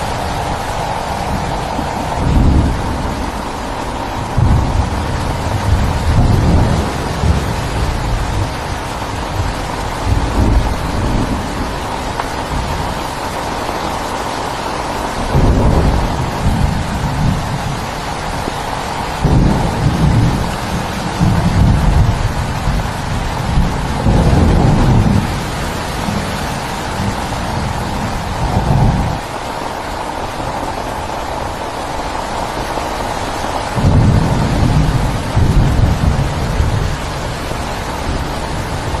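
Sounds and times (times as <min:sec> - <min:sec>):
heavy rain falling: 0:00.0 - 0:39.0
low thunder rumbling: 0:00.0 - 0:39.0.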